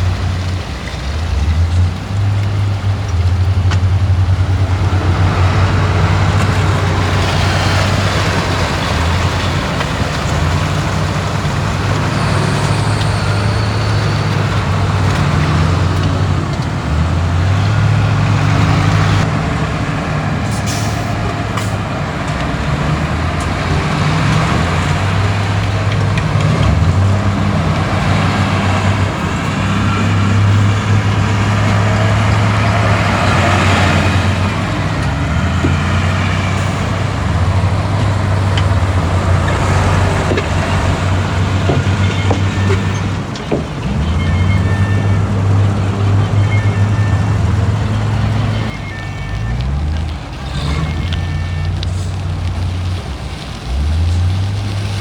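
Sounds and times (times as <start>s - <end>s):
diesel machinery engine: 0.0s - 55.0s.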